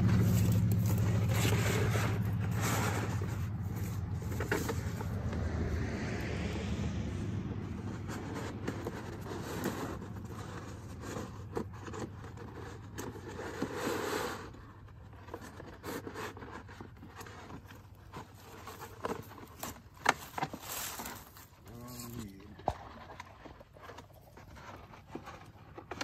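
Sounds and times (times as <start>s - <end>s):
rustling and scraping: 0.0s - 26.0s.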